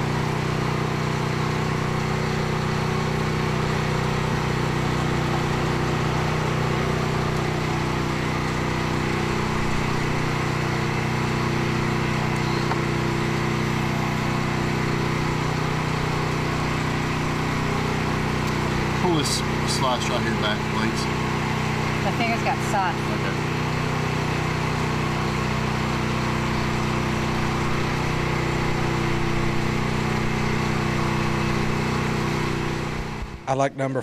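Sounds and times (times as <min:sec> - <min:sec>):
motor droning: 0:00.0 - 0:34.0.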